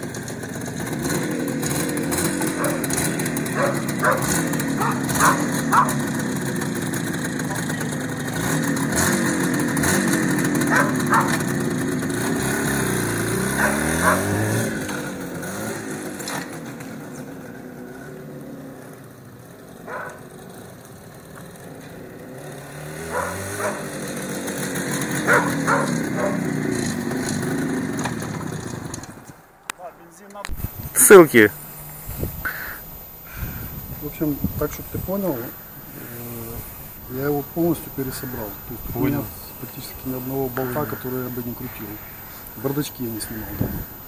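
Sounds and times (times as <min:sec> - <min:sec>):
motorcycle engine revving: 0:00.0 - 0:29.4, 0:30.5 - 0:44.0.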